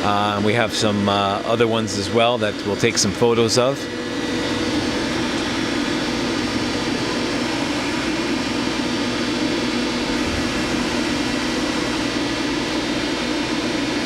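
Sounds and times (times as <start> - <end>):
machine mechanical hum: 0.0 - 14.0.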